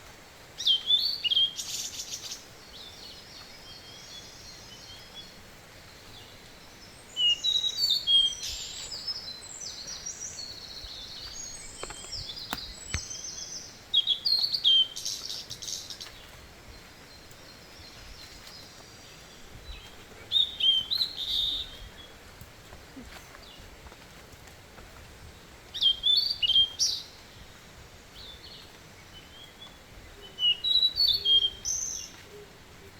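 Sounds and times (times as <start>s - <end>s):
faint background hiss: 0.0s - 32.9s
birds chirping and trilling: 0.6s - 22.2s, 28.1s - 32.9s.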